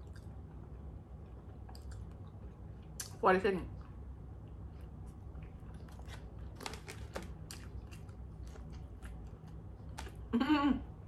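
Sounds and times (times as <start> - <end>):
person chewing food: 0.0 - 3.1, 3.8 - 10.3
low steady hum: 0.0 - 11.0.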